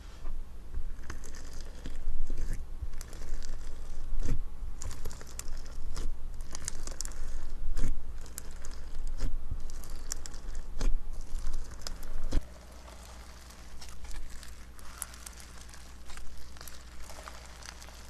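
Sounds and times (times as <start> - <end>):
slime squeezed with crackles and pops: 1.0 - 18.0.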